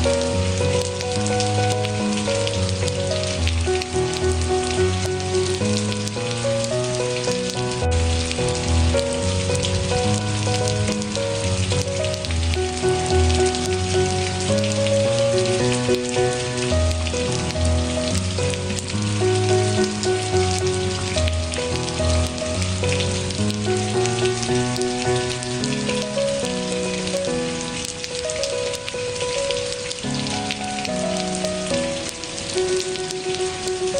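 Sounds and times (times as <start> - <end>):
gentle melody with bass line: 0.0 - 33.9
steady rain: 0.0 - 33.9.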